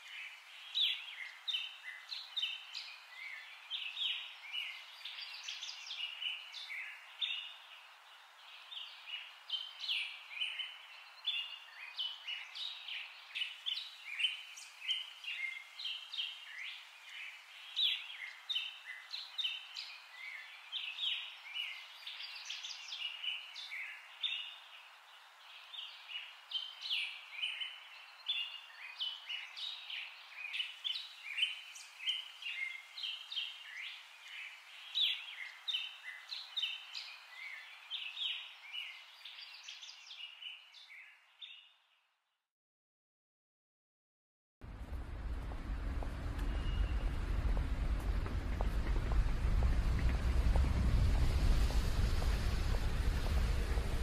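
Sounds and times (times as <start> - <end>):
small birds chirping: 0.0 - 42.1, 44.7 - 54.0.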